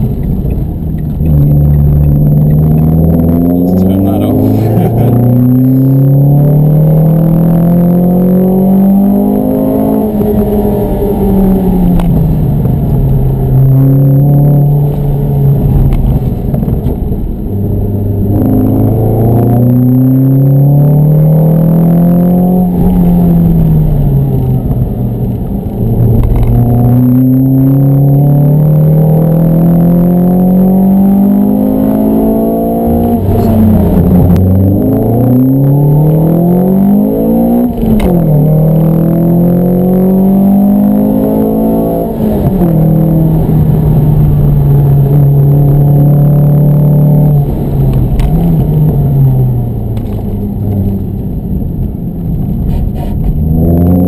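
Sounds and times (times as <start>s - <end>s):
car engine revving hard: 1.3s - 16.3s, 18.0s - 24.3s, 25.9s - 50.2s, 53.3s - 54.0s.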